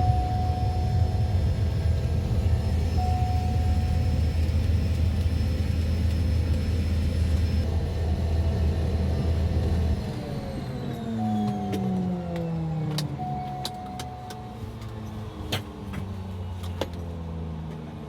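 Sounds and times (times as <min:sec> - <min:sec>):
small plane engine drone: 0:00.0 - 0:18.0.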